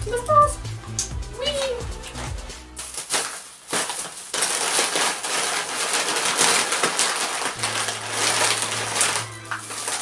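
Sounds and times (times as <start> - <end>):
plastic bag rustling and crinkling: 1.6 - 10.0.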